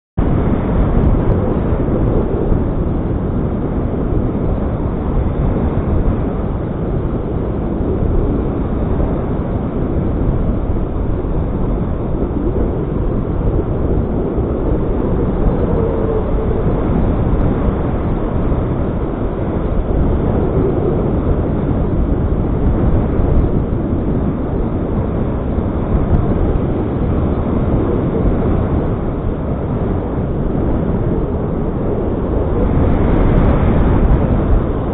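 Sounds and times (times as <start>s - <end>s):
wind blowing across microphone: 0.2s - 34.9s.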